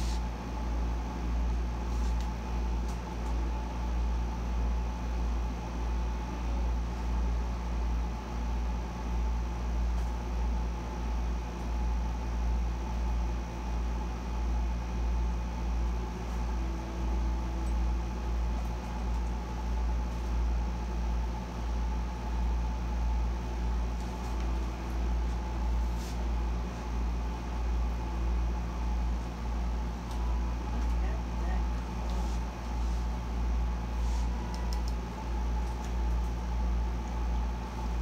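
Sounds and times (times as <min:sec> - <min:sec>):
air conditioner hum: 0:00.0 - 0:38.0
faint steady whine: 0:00.0 - 0:38.0.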